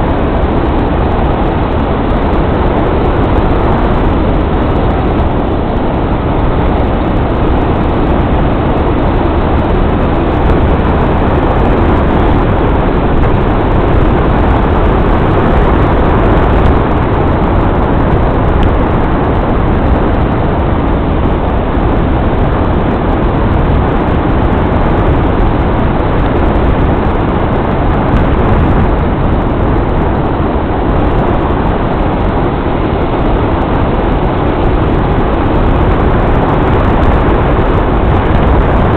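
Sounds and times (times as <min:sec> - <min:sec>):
vehicle rumble and rush: 0:00.0 - 0:38.9.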